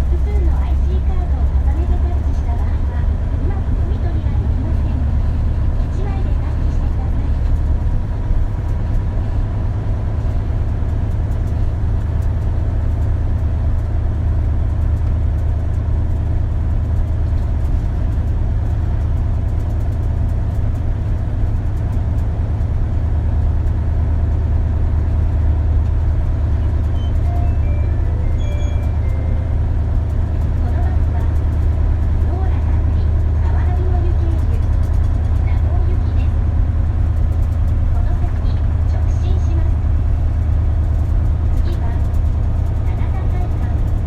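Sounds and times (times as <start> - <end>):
bus engine and road drone: 0.0 - 44.0.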